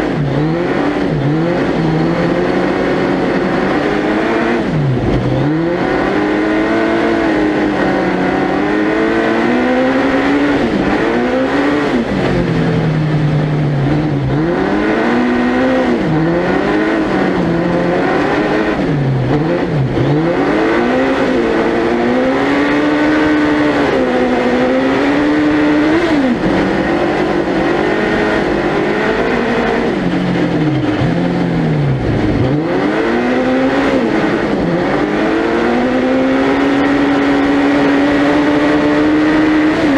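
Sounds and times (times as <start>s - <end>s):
motorcycle engine revving hard: 0.0s - 39.9s.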